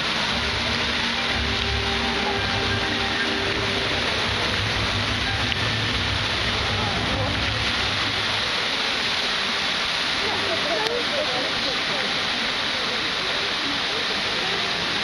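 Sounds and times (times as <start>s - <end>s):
fountain water jets spraying: 0.0s - 15.0s.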